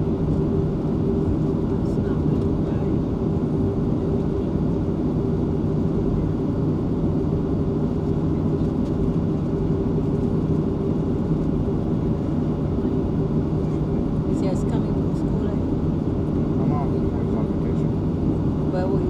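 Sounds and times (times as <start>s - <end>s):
jet engines idling in cabin: 0.0s - 19.0s.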